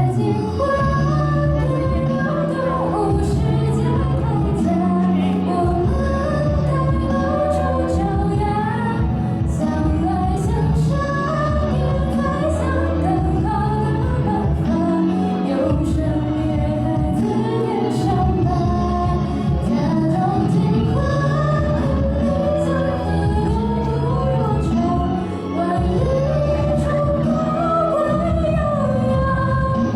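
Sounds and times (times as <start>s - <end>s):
woman singing: 0.0s - 29.9s.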